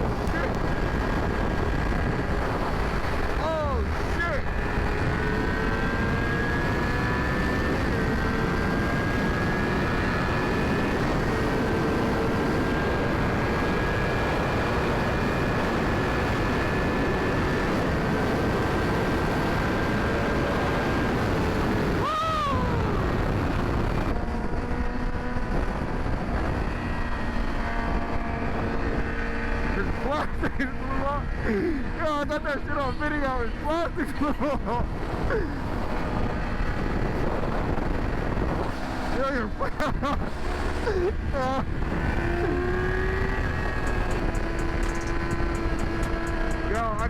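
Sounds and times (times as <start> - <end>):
motorcycle engine running: 0.0 - 47.0
wind noise on microphone: 0.0 - 47.0.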